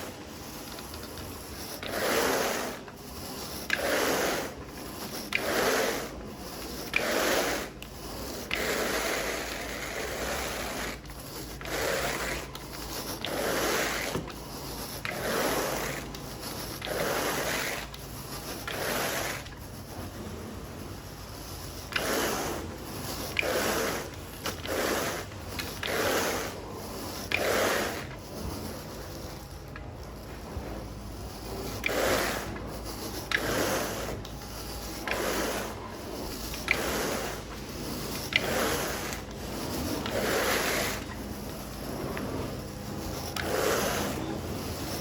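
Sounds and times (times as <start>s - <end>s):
low machine hum: 0.0s - 45.0s
rake rasping through carpet: 0.0s - 45.0s.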